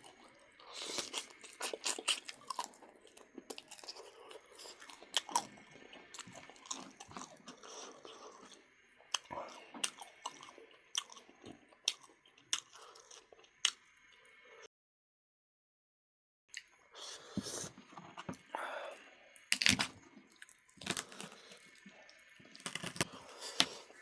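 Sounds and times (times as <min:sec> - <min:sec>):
wet chewing with crunching: 0:00.0 - 0:14.4, 0:17.3 - 0:24.0.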